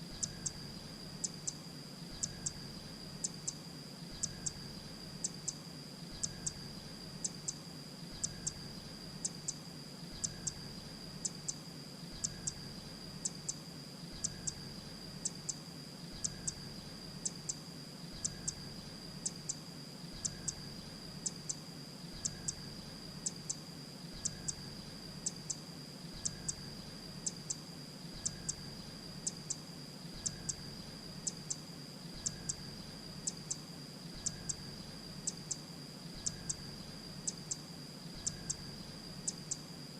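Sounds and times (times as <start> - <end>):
steady high-pitched whine: 0.0 - 39.9.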